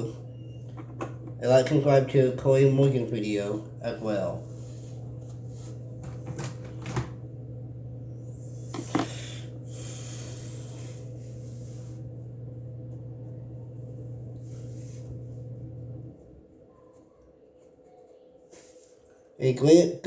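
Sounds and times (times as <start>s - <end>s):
steady low hum: 0.0s - 17.2s.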